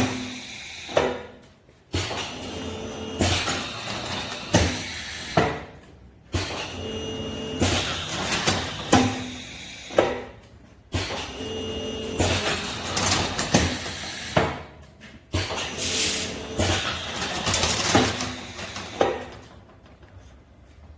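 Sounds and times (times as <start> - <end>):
pipe-bending machine running: 0.0 - 20.2.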